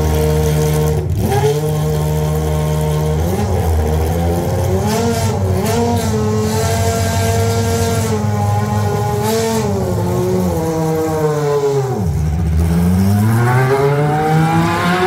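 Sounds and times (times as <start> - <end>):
racing car engine idling and revving: 0.0 - 15.0.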